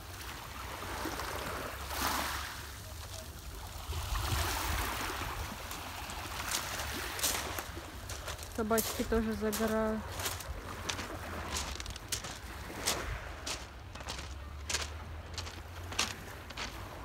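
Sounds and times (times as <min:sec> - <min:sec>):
waves washing over pebbles: 0:00.0 - 0:17.0.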